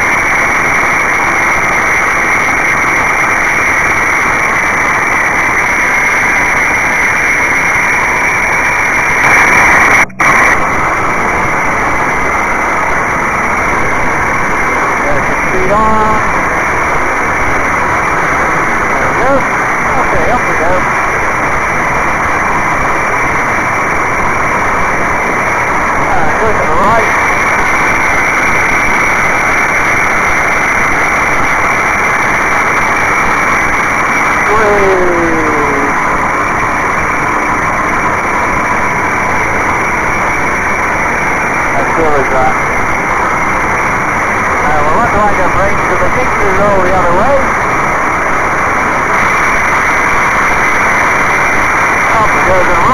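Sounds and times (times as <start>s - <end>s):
aircraft engine running: 0.0s - 52.9s
rushing air: 0.0s - 52.9s
airflow: 3.9s - 52.9s.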